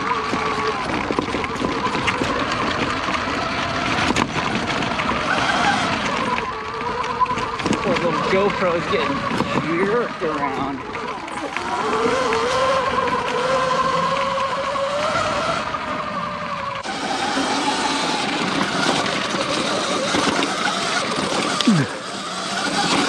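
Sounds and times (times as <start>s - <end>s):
electric motor whining: 0.0s - 23.0s
tyres rushing on loose rock: 0.0s - 23.0s.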